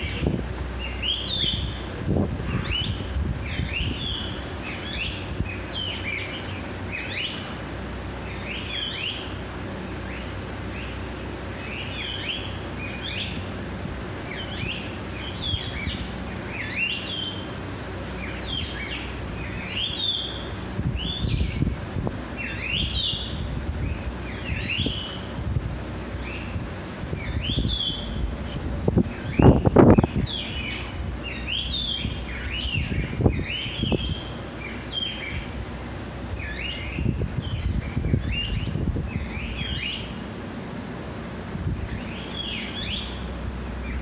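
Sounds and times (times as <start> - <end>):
birds whistling: 0.0 - 7.6, 8.2 - 13.6, 14.2 - 25.4, 26.1 - 40.3, 41.8 - 44.0
low steady rumble: 0.0 - 44.0.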